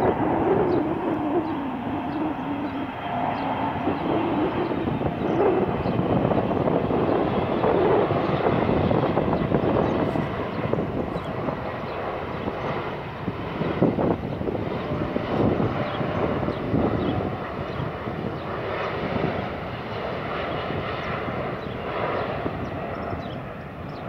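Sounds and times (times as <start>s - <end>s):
jet engines droning overhead: 0.0s - 24.0s.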